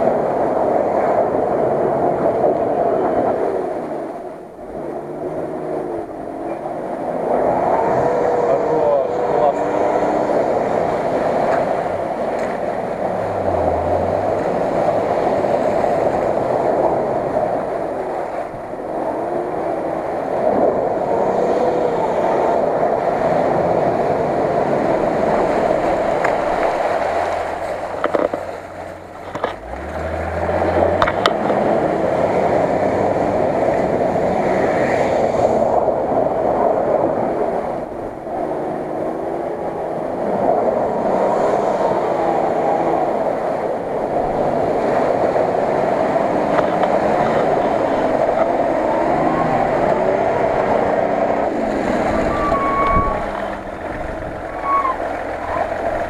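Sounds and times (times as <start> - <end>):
off-road vehicle engine droning: 0.0 - 56.0
water splashing around wheels: 0.0 - 56.0.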